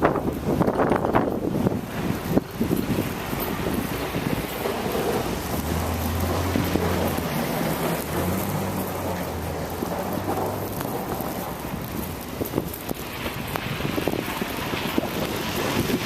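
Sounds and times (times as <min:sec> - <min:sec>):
low engine hum: 0:00.0 - 0:16.0
wind buffeting microphone: 0:00.0 - 0:16.0.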